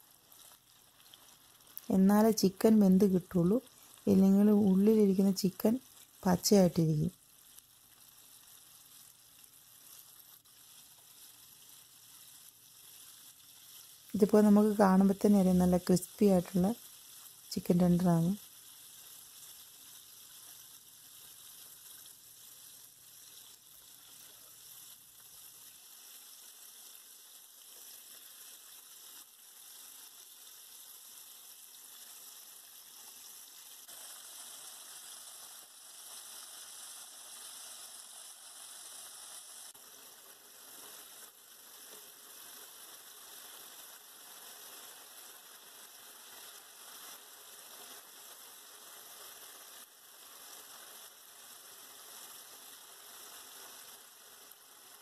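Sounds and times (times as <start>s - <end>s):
oil sizzling and crackling: 0.0s - 55.0s.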